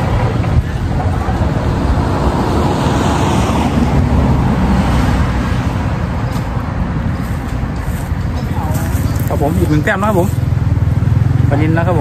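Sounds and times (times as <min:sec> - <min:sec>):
road traffic rumble: 0:00.0 - 0:12.0
vehicle passing: 0:00.0 - 0:12.0.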